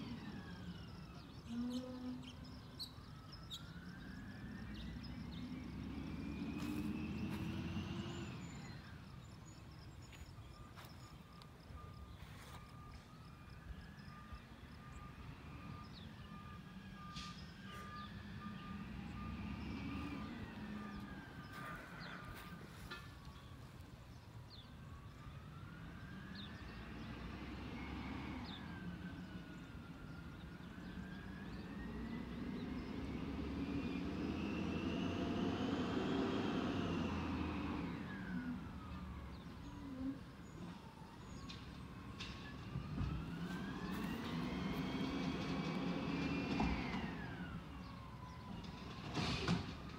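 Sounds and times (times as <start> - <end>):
siren wailing: 0.0 - 49.9.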